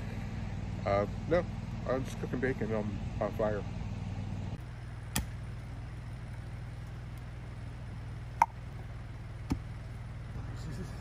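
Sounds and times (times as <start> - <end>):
generator running: 0.0 - 11.0.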